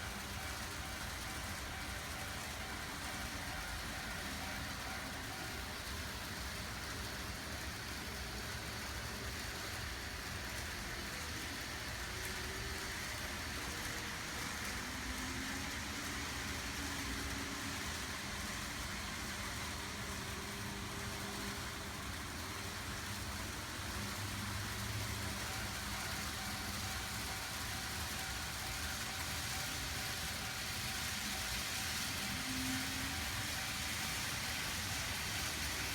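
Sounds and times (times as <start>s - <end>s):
model train wheels rumbling: 0.0s - 35.9s.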